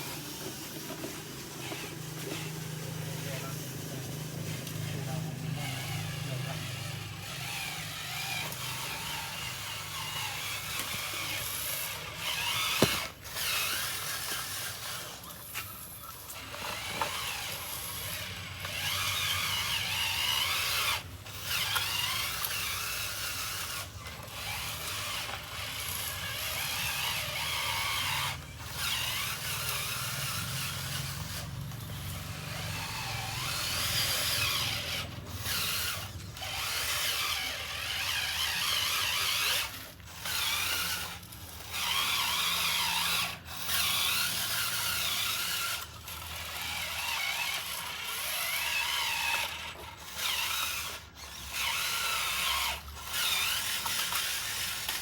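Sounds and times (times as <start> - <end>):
small electric motors whining: 0.0 - 55.0.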